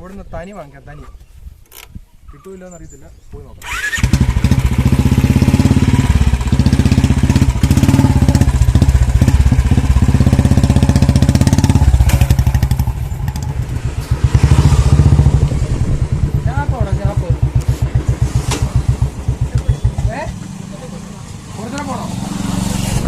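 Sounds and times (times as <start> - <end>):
motorcycle engine running: 3.8 - 23.0.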